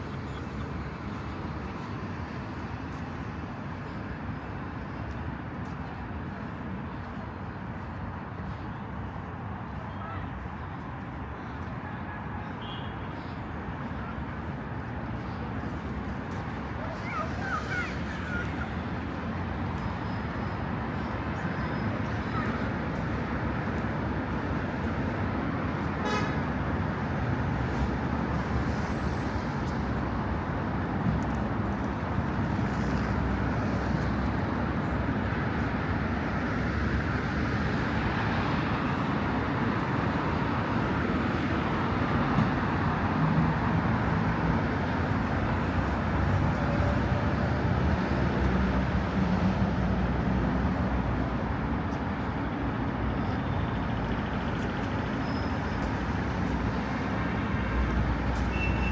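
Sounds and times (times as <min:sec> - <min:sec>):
cars passing on road: 0:00.0 - 0:58.9.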